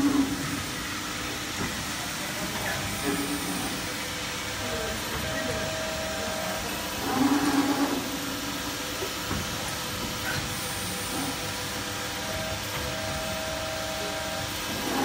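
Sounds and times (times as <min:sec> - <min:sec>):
steady machine hiss: 0:00.0 - 0:15.0.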